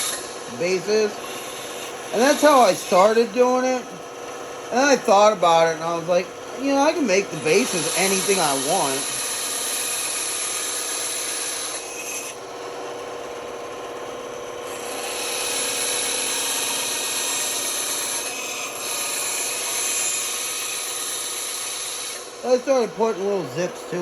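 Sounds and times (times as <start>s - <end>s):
band saw cutting wood: 0.0s - 24.0s.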